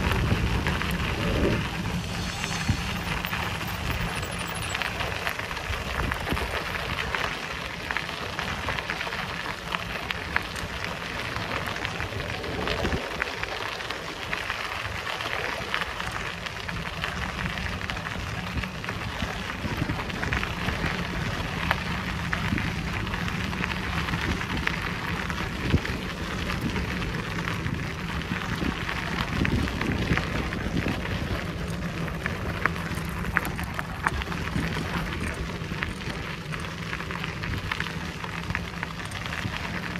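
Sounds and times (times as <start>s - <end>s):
bicycle tyres on rough track: 0.0s - 39.9s.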